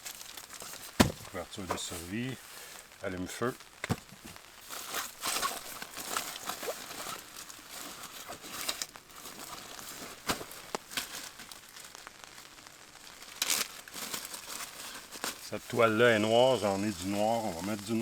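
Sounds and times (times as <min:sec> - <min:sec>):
crinkling and rustling supplies: 0:00.0 - 0:18.0.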